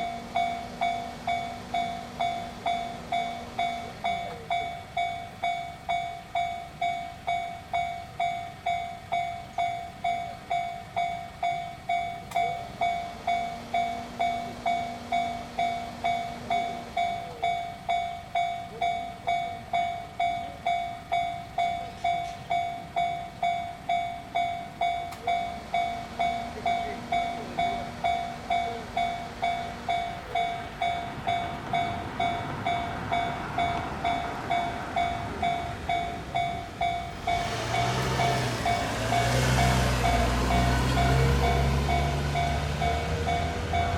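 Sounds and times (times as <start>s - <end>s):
approaching train rumble: 0.0s - 43.9s
railroad crossing bell ringing: 0.0s - 43.9s.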